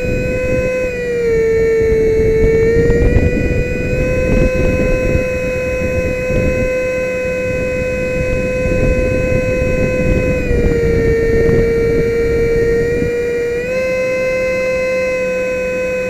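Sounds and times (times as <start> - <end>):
rushing wind noise: 0.0 - 14.8
electric ducted fan whining: 0.0 - 16.0.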